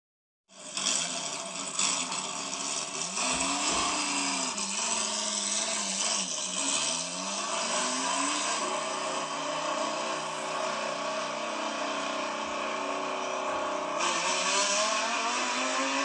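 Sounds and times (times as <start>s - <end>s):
toy vehicle engine noise: 0.5s - 16.0s.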